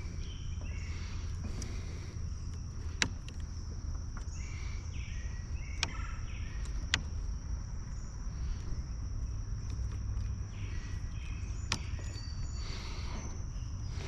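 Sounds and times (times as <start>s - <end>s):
bird chirps: 0.0s - 14.0s
insects droning: 0.0s - 14.0s.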